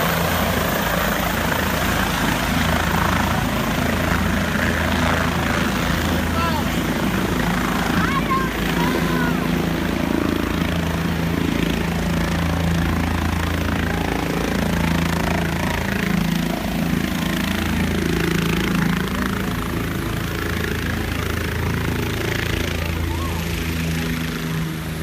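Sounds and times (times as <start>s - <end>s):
helicopter engine and rotor hum: 0.0s - 25.0s.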